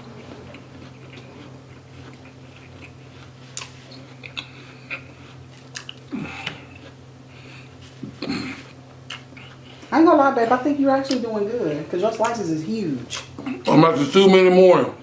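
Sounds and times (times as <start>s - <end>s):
crunchy apple chewing: 0.0s - 11.3s, 13.0s - 13.9s
low room hum: 0.0s - 15.0s.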